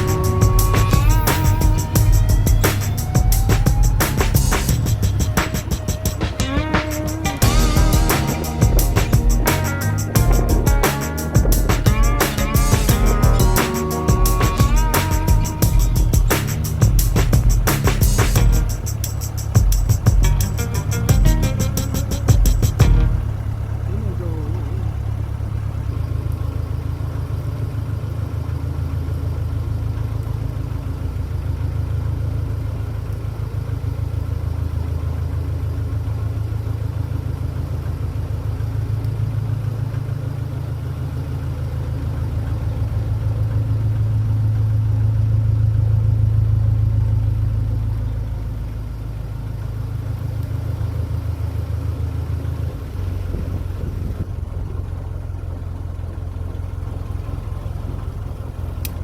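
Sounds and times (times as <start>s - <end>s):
boat diesel engine throbbing: 0.0s - 28.0s, 39.2s - 59.0s.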